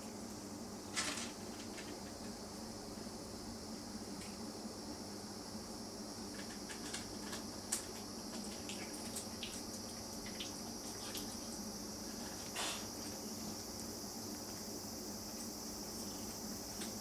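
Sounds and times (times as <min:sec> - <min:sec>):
insects chirring: 0:00.1 - 0:17.0.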